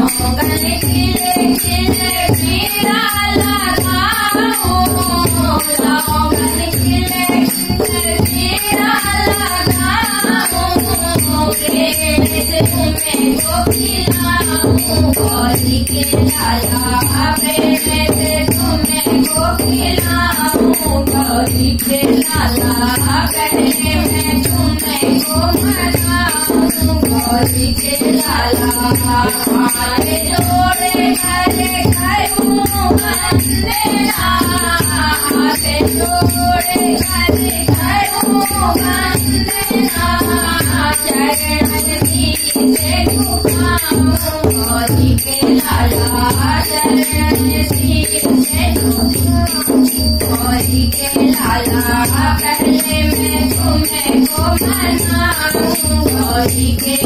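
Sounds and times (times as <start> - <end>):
hand drum beating: 0.0 - 57.0
jingling hand cymbals: 0.0 - 57.0.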